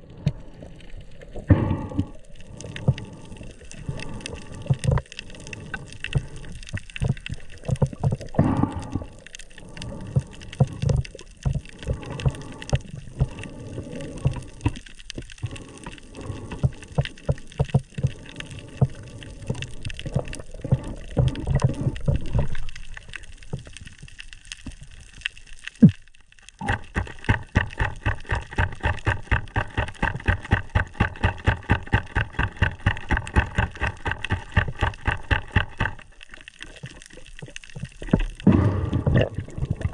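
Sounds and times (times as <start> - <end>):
underwater thumps and swishes: 0.0 - 39.9.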